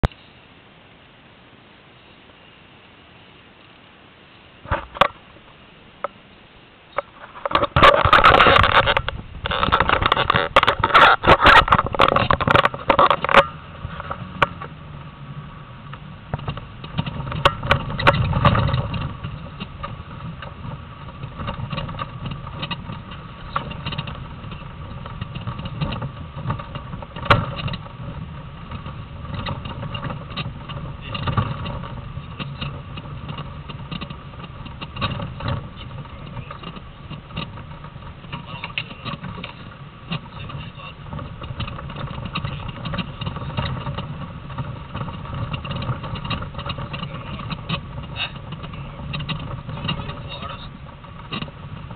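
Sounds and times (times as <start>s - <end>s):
car engine running at low speed: 0.0s - 51.9s
knocks and rattles: 7.0s - 14.7s, 16.3s - 51.9s.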